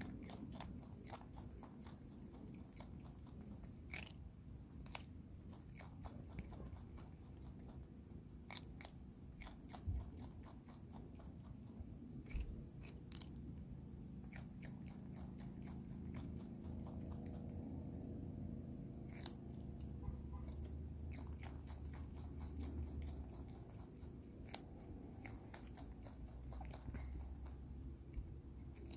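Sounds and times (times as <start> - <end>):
animal crunching carrot: 0.0 - 28.9.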